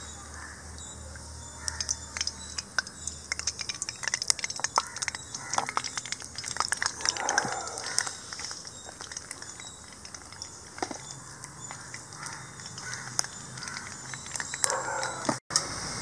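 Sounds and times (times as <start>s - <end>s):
oil crackling and ticking: 0.0s - 16.0s
oil pouring into a pan: 1.6s - 15.1s.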